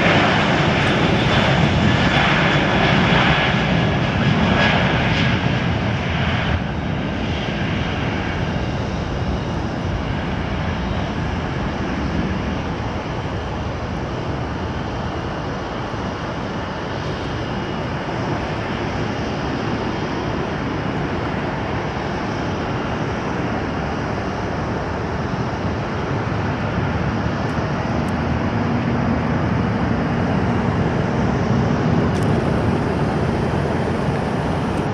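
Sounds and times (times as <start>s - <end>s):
high jet engine whine: 0.0s - 34.9s
jet engine roar: 0.0s - 34.9s.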